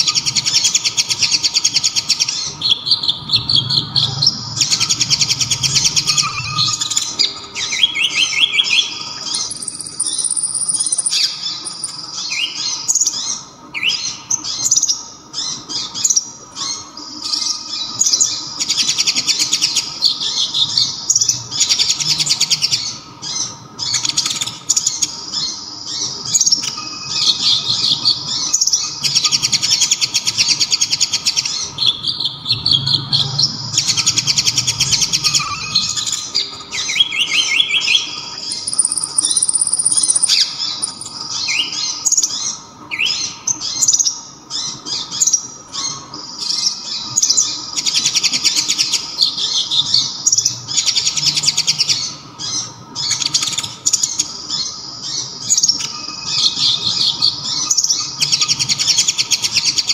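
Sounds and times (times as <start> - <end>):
small bird singing with trills: 0.0 - 59.9.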